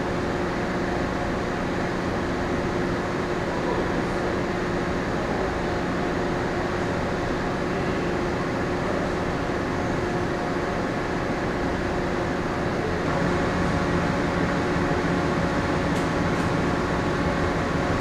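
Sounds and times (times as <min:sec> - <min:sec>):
ship machinery hum: 0:00.0 - 0:18.0.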